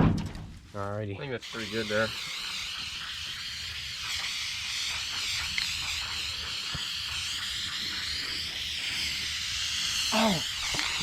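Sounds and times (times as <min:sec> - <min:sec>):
spray paint can hissing: 0:01.4 - 0:11.0.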